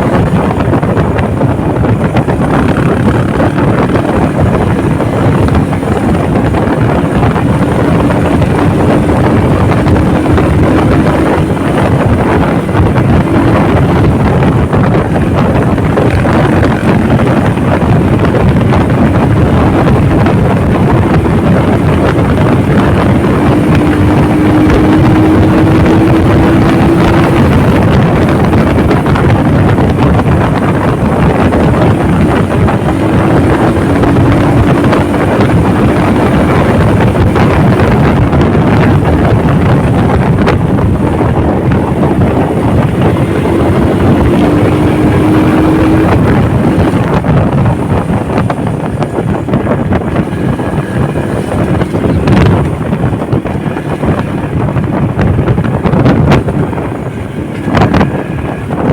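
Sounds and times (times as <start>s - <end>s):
motorcycle engine accelerating: 0.0s - 58.9s
wind rushing over microphone: 0.0s - 58.9s.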